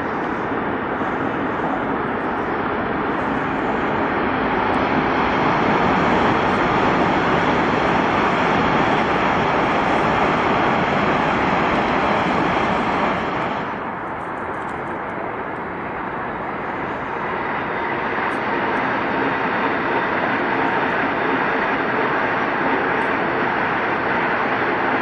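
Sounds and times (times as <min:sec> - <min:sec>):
electric trains rushing: 0:00.0 - 0:25.0.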